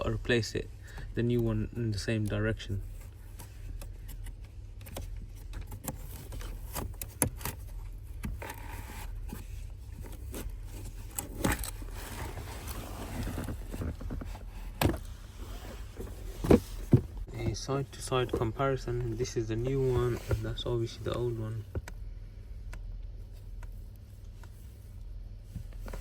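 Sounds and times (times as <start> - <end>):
steady low hum: 0.0 - 26.0
filter rustling and scraping: 2.0 - 21.9, 23.2 - 26.0.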